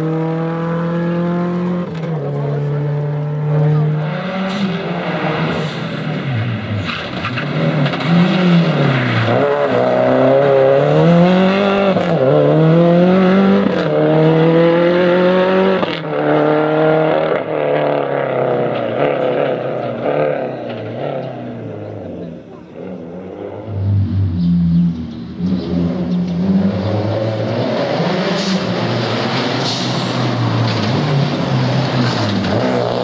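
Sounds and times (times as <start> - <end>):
rally car engine accelerating: 0.0 - 33.0.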